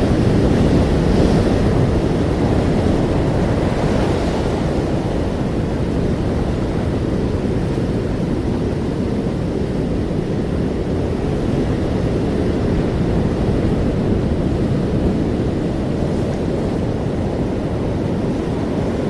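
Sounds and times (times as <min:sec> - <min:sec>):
ocean waves rushing: 0:00.0 - 0:19.0.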